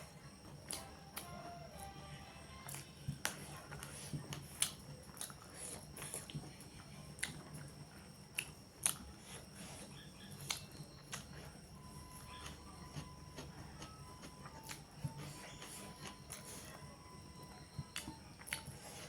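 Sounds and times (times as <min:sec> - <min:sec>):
chewing with wet smacks: 0:00.0 - 0:01.9, 0:02.6 - 0:19.0.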